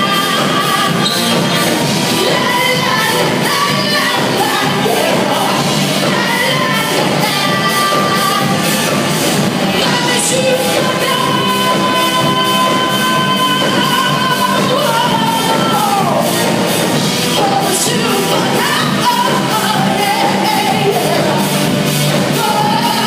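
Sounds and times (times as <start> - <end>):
bass guitar: 0.0 - 23.0
drum kit: 0.0 - 23.0
electric guitars: 0.0 - 23.0
person singing: 0.0 - 23.0.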